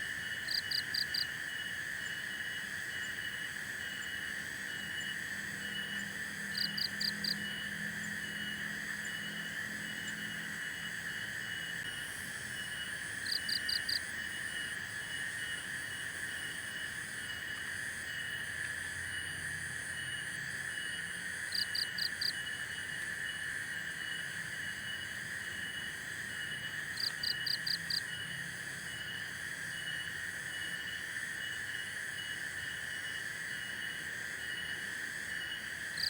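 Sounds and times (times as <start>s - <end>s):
pulsing insect chirp: 0.0s - 36.0s.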